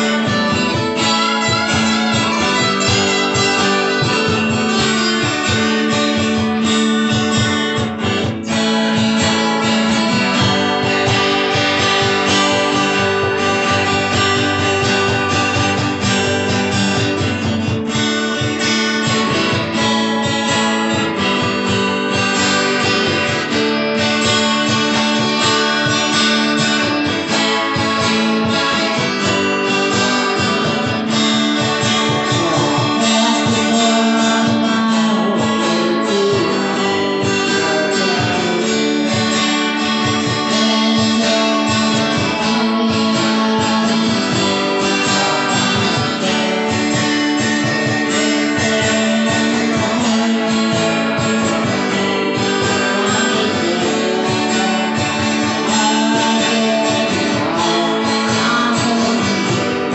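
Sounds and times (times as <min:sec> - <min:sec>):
acoustic guitars strumming: 0:00.0 - 0:59.9
hand drum beat: 0:00.0 - 0:59.9.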